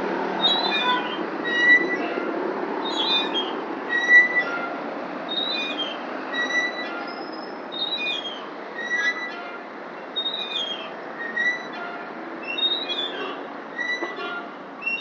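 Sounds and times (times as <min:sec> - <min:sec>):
metal swing squeaking: 0:00.3 - 0:15.0.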